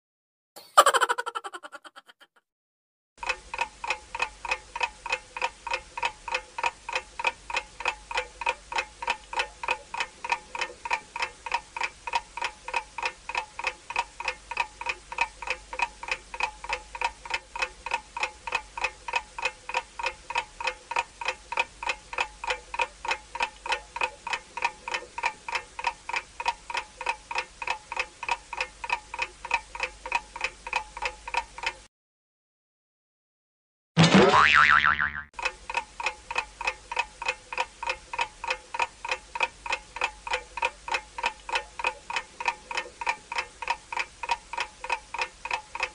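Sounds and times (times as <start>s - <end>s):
clock ticking: 3.2s - 31.8s, 35.4s - 45.9s.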